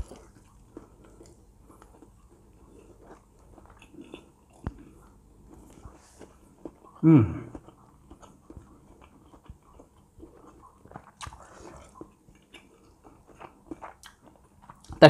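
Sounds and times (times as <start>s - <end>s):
person chewing with mouth clicks: 0.0s - 15.0s.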